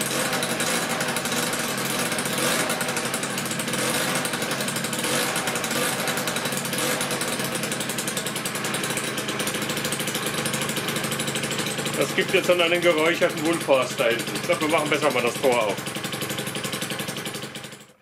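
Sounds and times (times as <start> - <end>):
two-stroke scooter engine running: 0.0 - 18.0.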